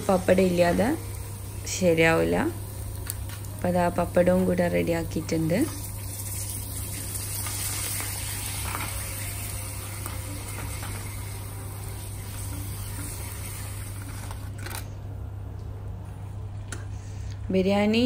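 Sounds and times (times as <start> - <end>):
low steady hum: 0.0 - 7.7, 8.3 - 18.0
food sizzling in hot oil: 0.0 - 14.5.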